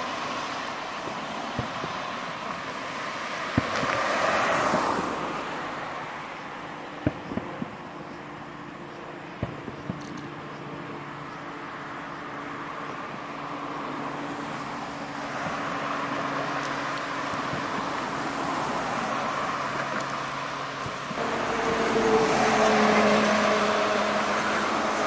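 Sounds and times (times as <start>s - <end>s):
vehicle engine hum and tyre noise: 0.0s - 25.0s.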